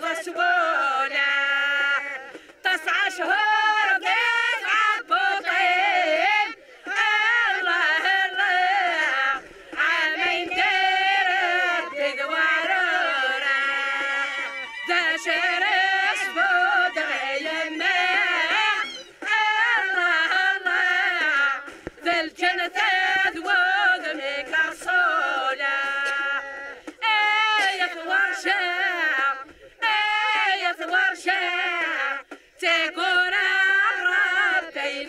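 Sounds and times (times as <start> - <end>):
women singing together: 0.0 - 35.0.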